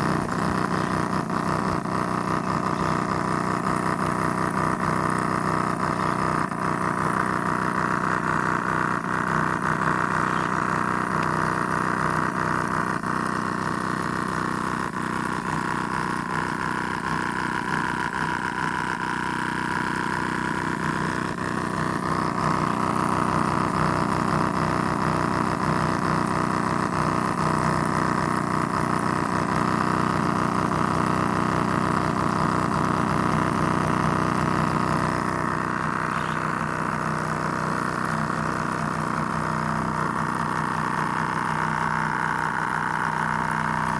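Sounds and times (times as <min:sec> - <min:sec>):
drilling machine motor whining: 0:00.0 - 0:43.9.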